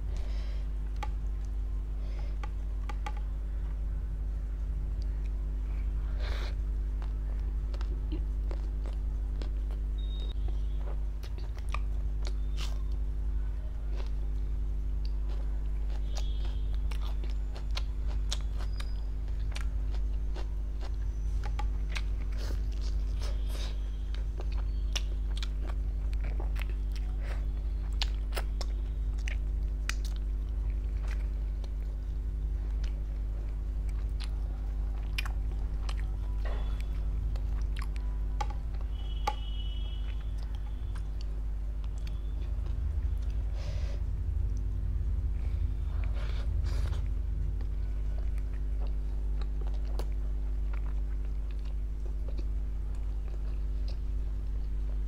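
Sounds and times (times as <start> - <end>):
steady low hum: 0.0 - 55.0
chewing and lip smacks: 7.0 - 13.0, 15.0 - 32.1, 32.7 - 43.5, 44.4 - 55.0.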